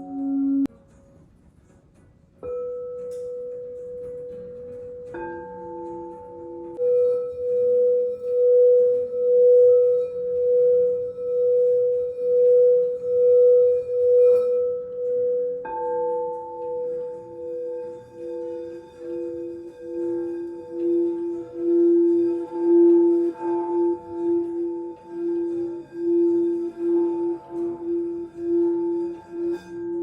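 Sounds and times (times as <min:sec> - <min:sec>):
singing bowls ringing: 0:00.0 - 0:00.7, 0:02.5 - 0:30.0
singing bowl struck: 0:05.4 - 0:30.0.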